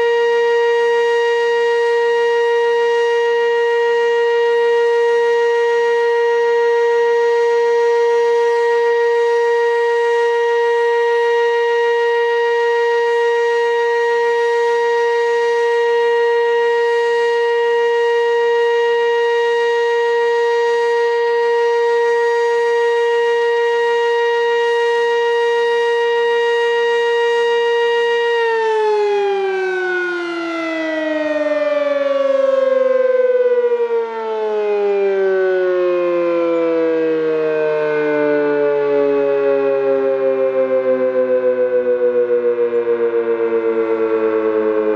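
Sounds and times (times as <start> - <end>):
warning siren winding down: 0.0 - 44.9.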